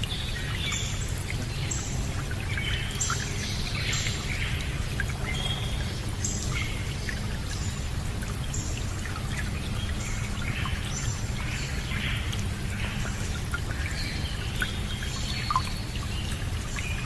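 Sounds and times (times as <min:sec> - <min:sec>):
birds calling and chirping: 0:00.0 - 0:17.0
water pouring and trickling: 0:00.0 - 0:17.0.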